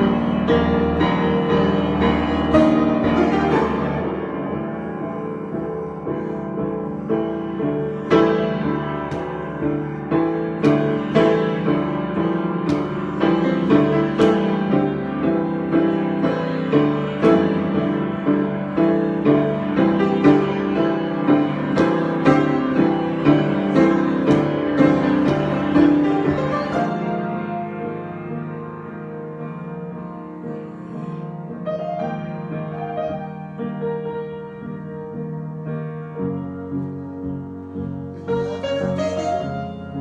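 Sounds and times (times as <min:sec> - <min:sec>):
solo piano improvisation: 0:00.0 - 0:40.0.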